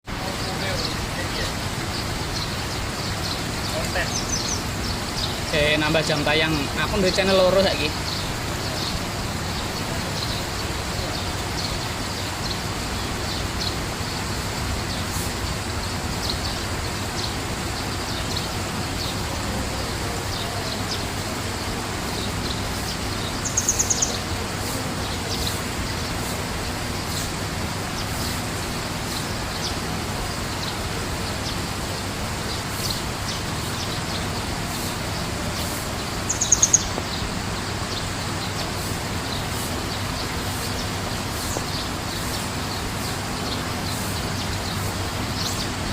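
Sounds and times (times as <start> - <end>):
small birds chirping: 0.0 - 45.9
steady rushing noise: 0.0 - 45.9
rapid high bird trills: 0.1 - 45.9.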